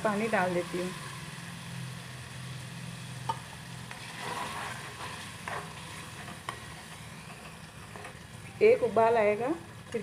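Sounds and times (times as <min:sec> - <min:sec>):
gravy sizzling in a pan: 0:00.0 - 0:10.0.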